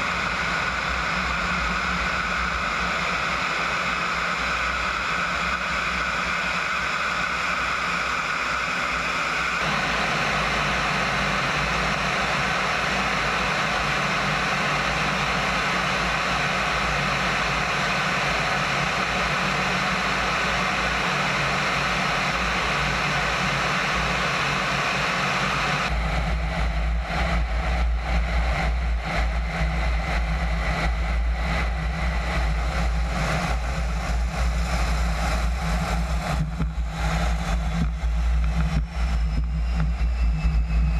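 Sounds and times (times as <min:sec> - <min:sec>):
jet engine rumble: 0:00.0 - 0:40.9.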